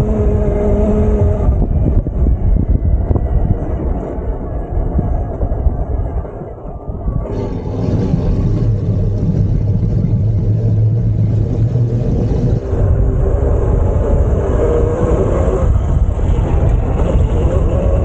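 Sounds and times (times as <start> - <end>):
e-bike low rumble: 0.0 - 18.0.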